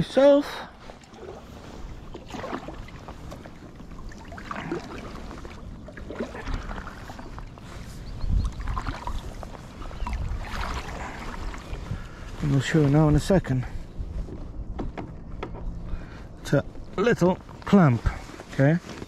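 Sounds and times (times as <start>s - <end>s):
low rumbling: 0.6s - 18.3s.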